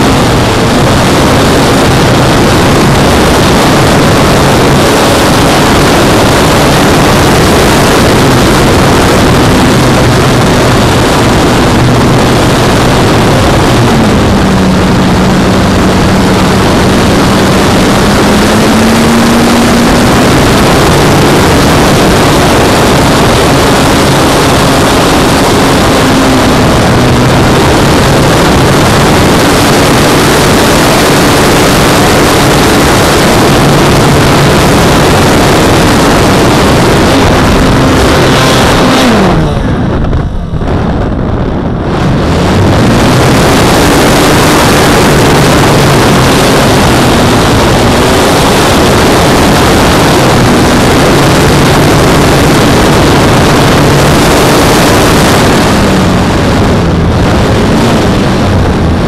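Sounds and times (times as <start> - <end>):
model plane motor and propeller: 0.0 - 40.0, 42.2 - 56.9
wind rush: 0.0 - 59.0.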